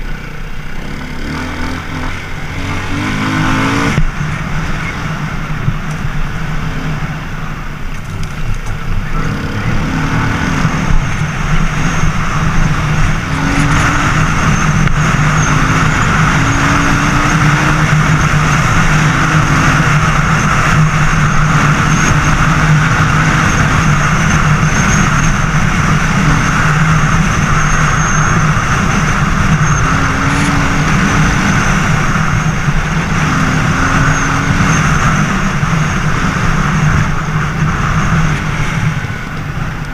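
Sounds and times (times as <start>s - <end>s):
motorcycle engine running: 0.0s - 39.9s
rushing noise: 0.0s - 39.9s.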